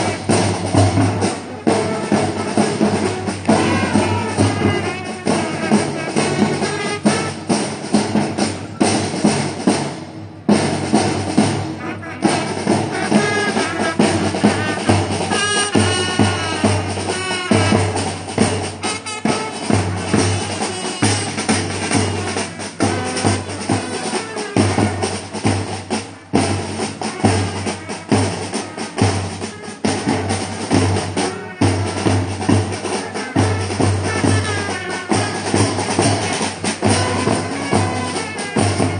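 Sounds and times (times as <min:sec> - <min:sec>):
bass and snare drums marching: 0:00.0 - 0:38.9.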